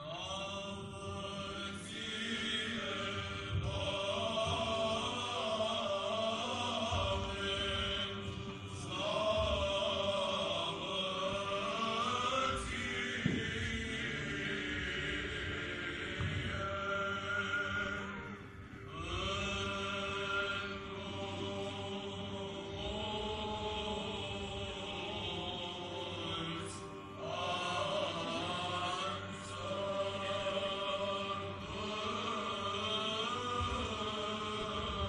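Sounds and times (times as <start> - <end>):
liturgical chanting: 0.0 - 35.0.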